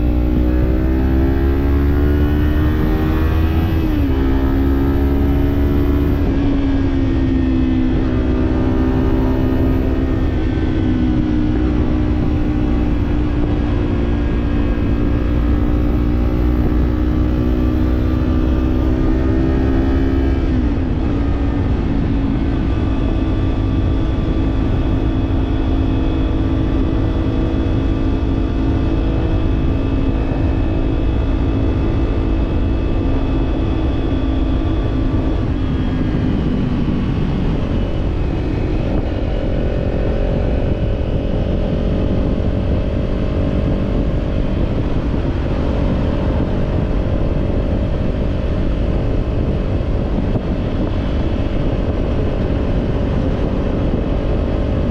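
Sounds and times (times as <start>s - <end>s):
low rush of wind: 0.0s - 54.9s
motorcycle engine cruising: 0.0s - 54.9s.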